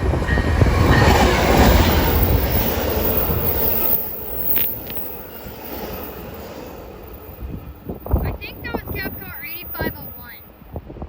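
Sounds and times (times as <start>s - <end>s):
train wheels clattering on rails: 0.0s - 10.2s.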